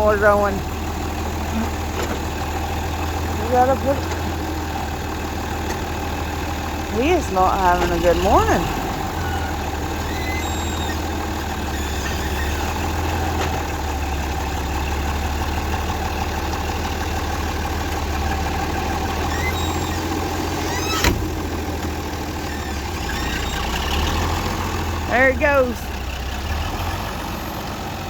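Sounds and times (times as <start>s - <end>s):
farm machinery droning: 0.0s - 28.0s.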